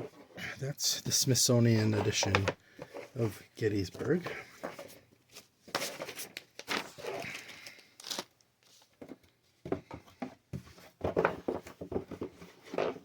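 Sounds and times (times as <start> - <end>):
cardboard and paper rustling: 1.7 - 9.9, 10.6 - 13.0.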